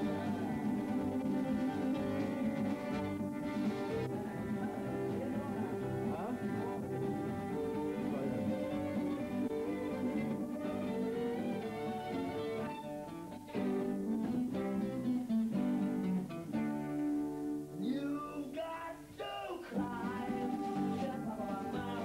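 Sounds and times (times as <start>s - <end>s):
sliding held melody: 0.0s - 17.7s
strummed acoustic guitar: 0.0s - 22.0s.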